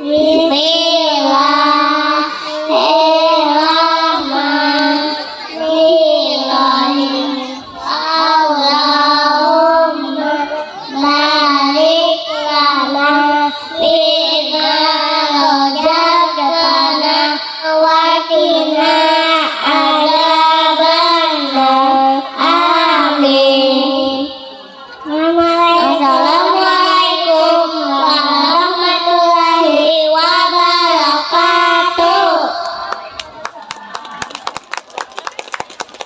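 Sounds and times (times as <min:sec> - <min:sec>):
girls singing in unison: 0:00.0 - 0:24.5, 0:25.1 - 0:33.1.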